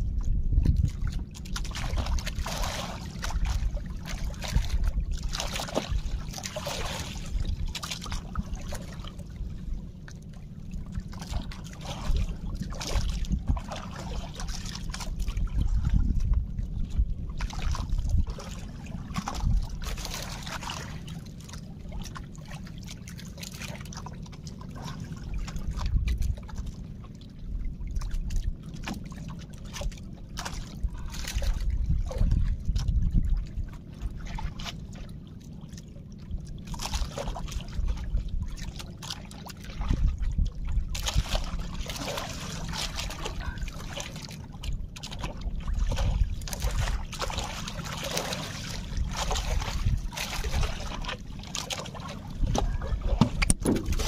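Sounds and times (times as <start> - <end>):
steady low rumble: 0.0 - 54.0
water sloshing against boat hull: 0.0 - 54.0.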